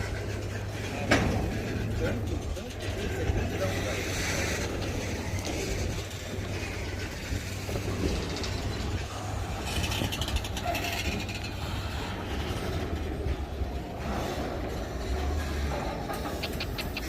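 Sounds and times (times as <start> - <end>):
freight train rumbling past: 0.0 - 17.0
rapid metallic wheel clicking: 1.6 - 17.0.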